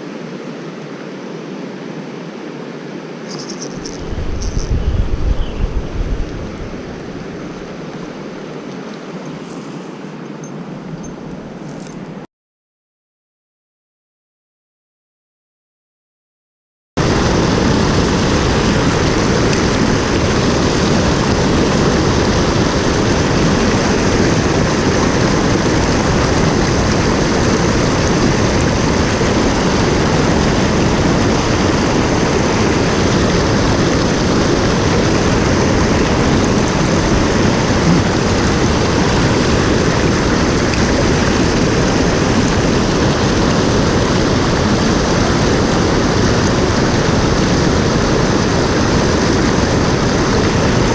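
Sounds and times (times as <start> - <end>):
mountain stream rushing water: 0.0 - 12.2, 17.0 - 50.9.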